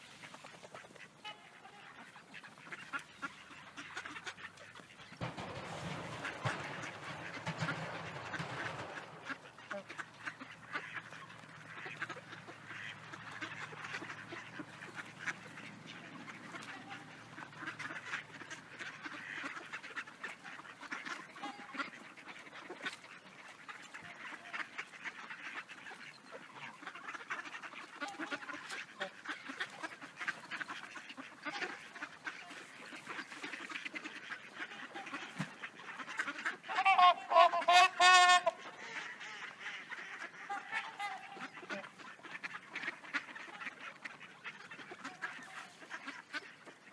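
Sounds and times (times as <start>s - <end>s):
ducks quacking: 0.0s - 46.9s
loud goose honks: 1.0s - 46.9s.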